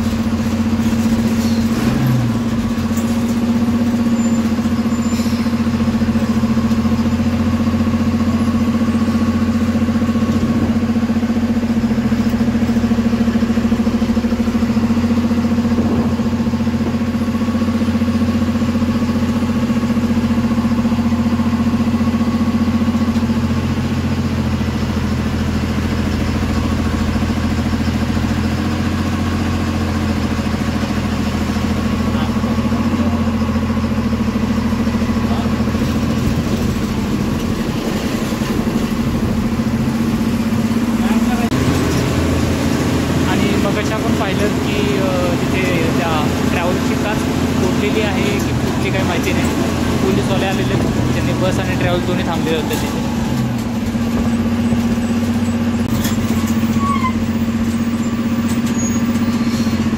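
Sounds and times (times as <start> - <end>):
bus diesel engine idling: 0.0 - 59.9.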